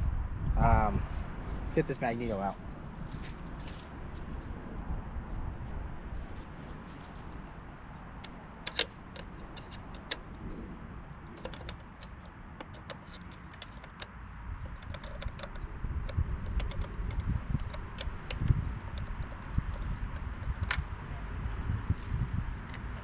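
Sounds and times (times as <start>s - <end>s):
low rumble of handling: 2.5s - 23.0s.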